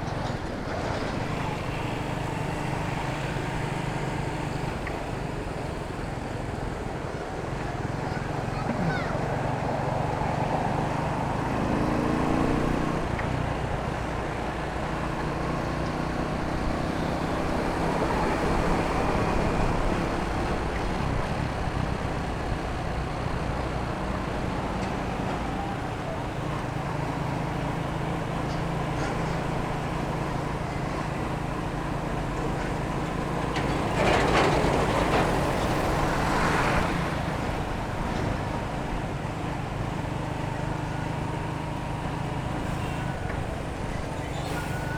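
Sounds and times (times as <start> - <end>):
street traffic: 0.0 - 44.9.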